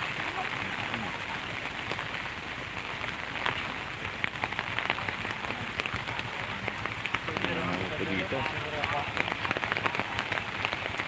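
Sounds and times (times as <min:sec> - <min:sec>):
rain on a wet road: 0:00.0 - 0:11.0.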